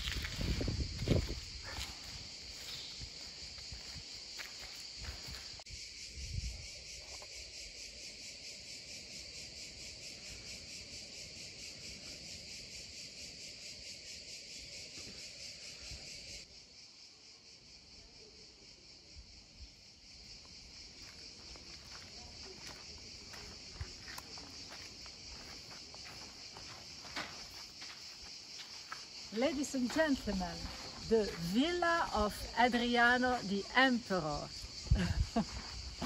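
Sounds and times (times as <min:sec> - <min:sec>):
cicadas chirring: 0:00.0 - 0:36.0.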